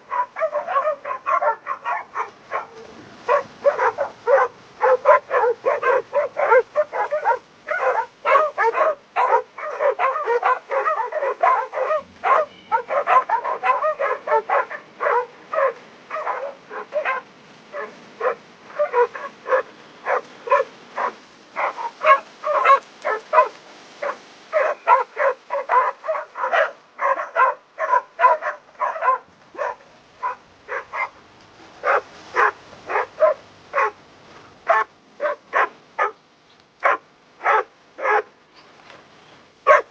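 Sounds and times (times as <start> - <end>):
dogs barking rapidly: 0.0 - 31.2, 31.8 - 34.0, 34.6 - 36.2, 36.8 - 38.4, 39.6 - 39.9.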